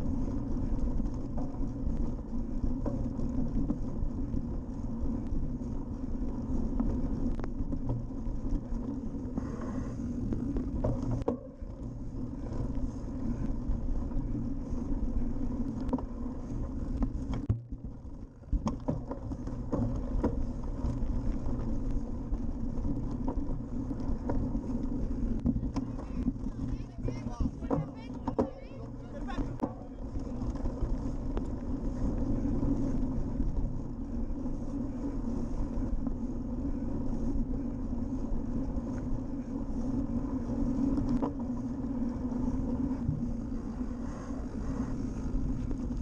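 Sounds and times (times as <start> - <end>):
bike rattling over grass: 0.0 - 46.0.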